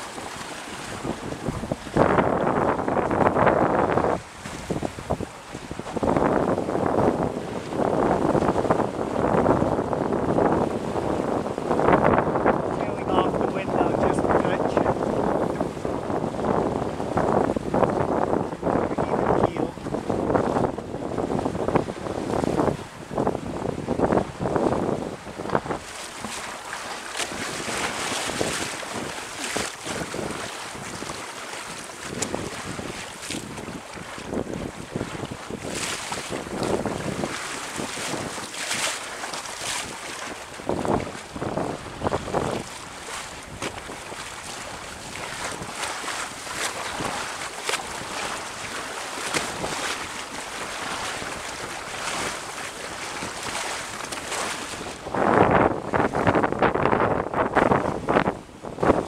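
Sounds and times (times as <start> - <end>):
water rushing along a hull: 0.0 - 59.0
wind buffeting microphone: 0.0 - 59.0.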